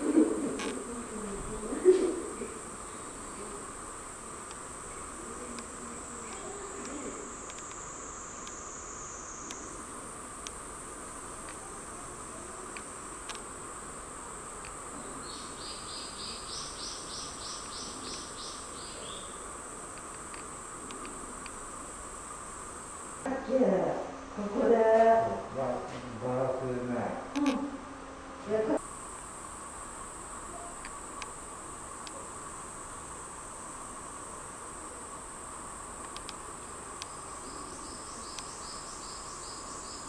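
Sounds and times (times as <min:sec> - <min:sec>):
cicadas droning: 0:00.0 - 0:40.0
pulsing insect or bird call: 0:00.0 - 0:40.0.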